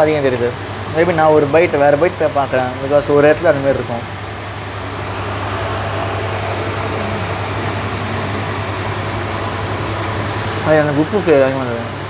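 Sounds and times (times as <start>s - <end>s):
air conditioner whoosh and hum: 0.0s - 12.0s.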